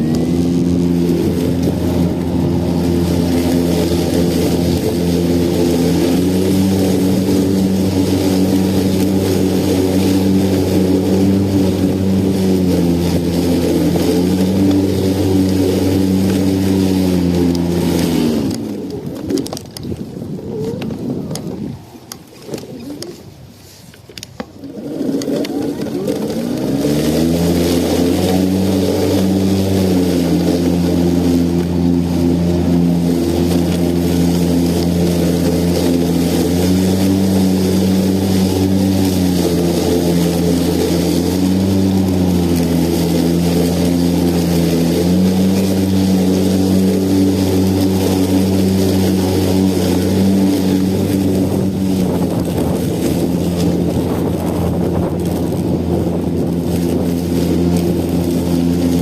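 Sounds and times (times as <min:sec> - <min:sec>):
electric lawn mower running: 0:00.0 - 0:23.3, 0:24.0 - 0:59.0.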